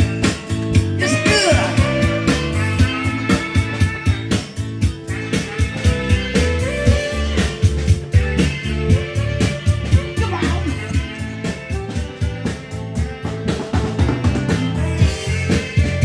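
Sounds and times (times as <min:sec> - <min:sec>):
bass: 0:00.0 - 0:16.0
drums keeping a steady beat: 0:00.0 - 0:16.0
guitar melody with bent notes: 0:00.0 - 0:16.0.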